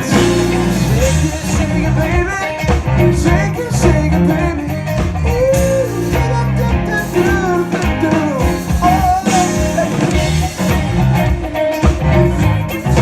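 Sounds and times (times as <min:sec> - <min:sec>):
bass line: 0:00.0 - 0:13.0
electric guitar: 0:00.0 - 0:13.0
person singing: 0:00.0 - 0:13.0.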